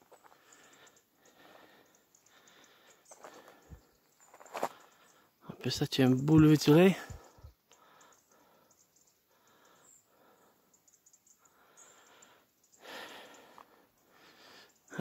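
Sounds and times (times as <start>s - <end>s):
faint breaths: 0.0s - 5.5s, 6.8s - 15.0s.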